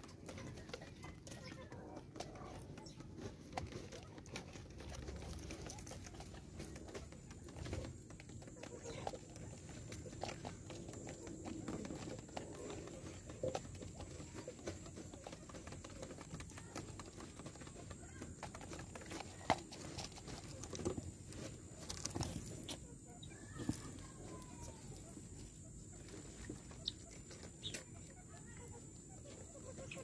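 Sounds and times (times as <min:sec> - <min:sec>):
beaks pecking: 0:00.0 - 0:30.0.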